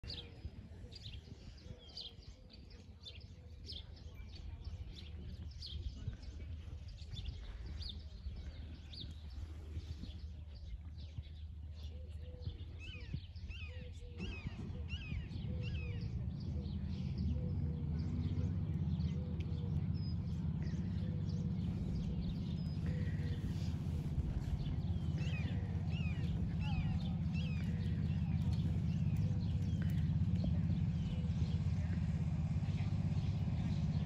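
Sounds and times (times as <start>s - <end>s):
low steady rumble: 0.0s - 34.0s
small birds chirping: 0.0s - 34.0s.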